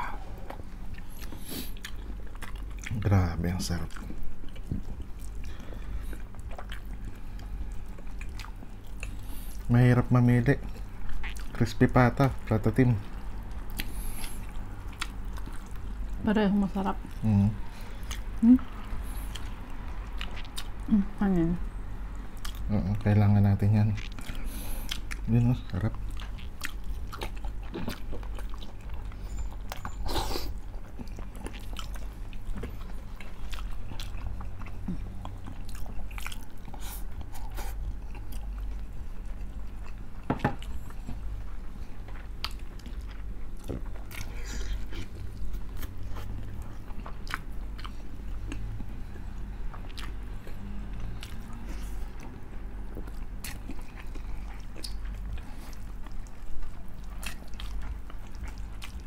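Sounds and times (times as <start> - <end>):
steady low hum: 0.0 - 59.0
chewing and biting: 0.3 - 16.2, 16.9 - 20.9, 22.4 - 59.0.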